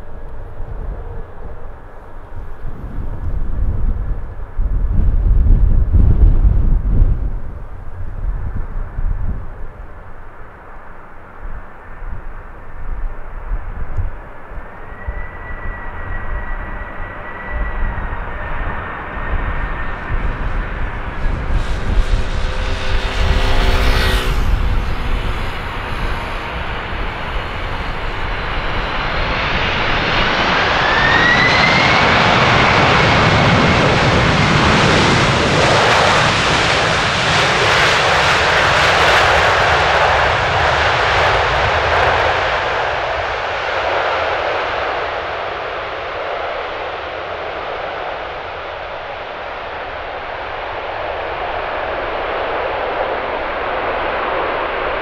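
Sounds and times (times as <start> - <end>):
jet airliner passing: 0.0 - 55.0
wind rumble on microphone: 0.0 - 55.0.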